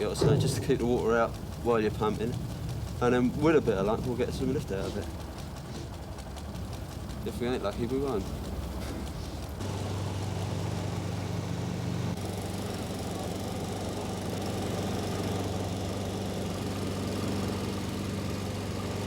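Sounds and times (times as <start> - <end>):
small water pump engine running: 0.0 - 19.0.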